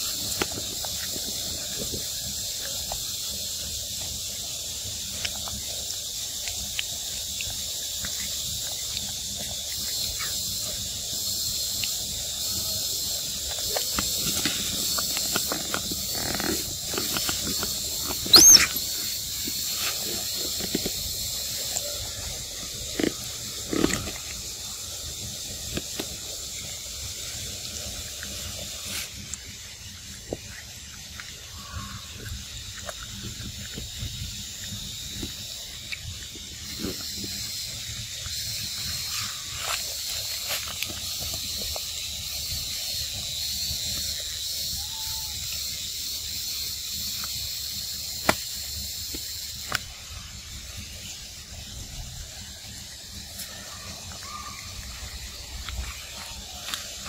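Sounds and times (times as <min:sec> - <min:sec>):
forest insects droning: 0:00.0 - 0:57.0
monkeys eating fruit clicks and smacks: 0:00.0 - 0:57.0.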